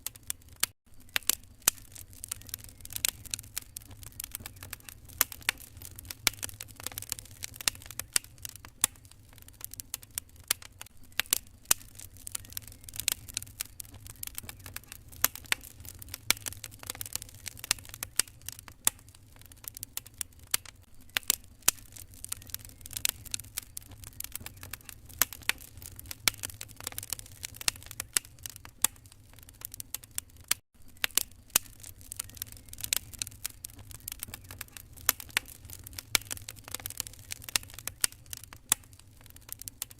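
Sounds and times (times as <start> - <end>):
fire low rumble: 0.0 - 39.9
fire popping and snapping: 0.0 - 39.9.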